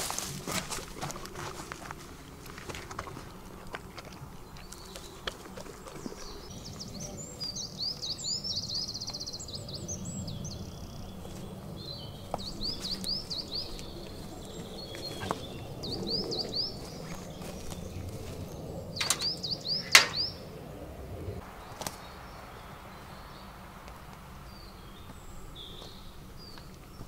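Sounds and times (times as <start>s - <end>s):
songbirds whistling: 4.4s - 27.0s.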